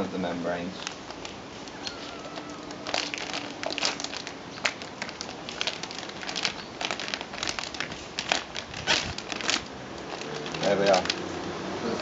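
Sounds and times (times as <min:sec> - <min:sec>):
plastic bag crinkling: 0:00.3 - 0:12.0.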